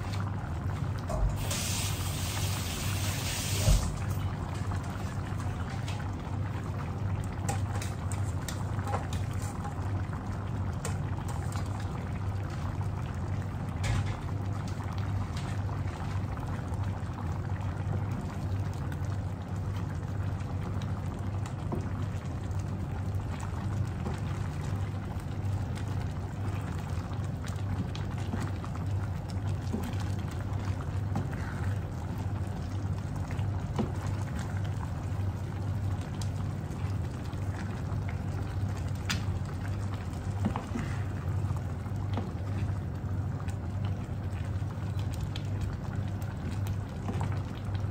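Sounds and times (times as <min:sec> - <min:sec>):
cream simmering and bubbling: 0:00.0 - 0:47.9
low steady hum: 0:00.0 - 0:47.9.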